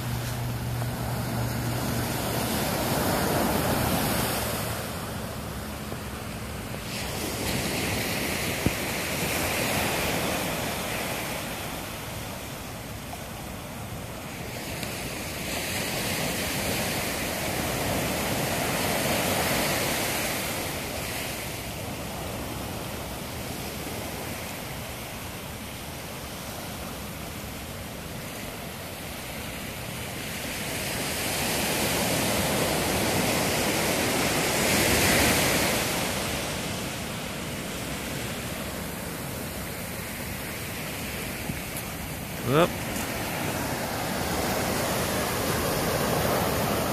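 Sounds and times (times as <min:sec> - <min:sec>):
ocean surf breaking on beach: 0:00.0 - 0:46.9.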